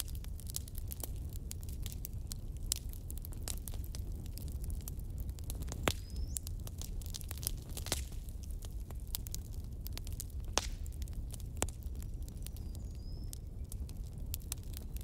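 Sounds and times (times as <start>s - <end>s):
low rumble of fire: 0.0s - 15.0s
wood fire crackling: 0.0s - 15.0s.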